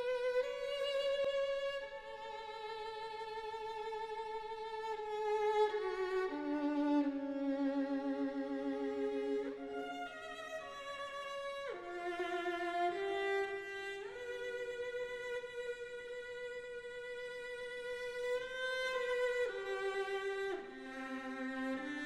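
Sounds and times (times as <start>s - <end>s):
solo violin slow melody: 0.0s - 22.0s.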